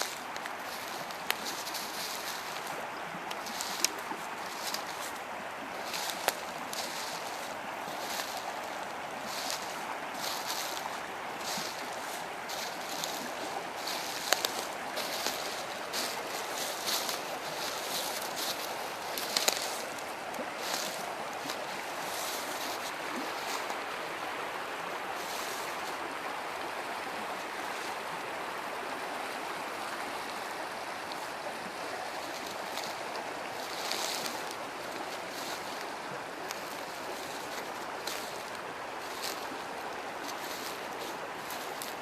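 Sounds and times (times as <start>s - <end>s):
river water rushing: 0.0s - 42.0s.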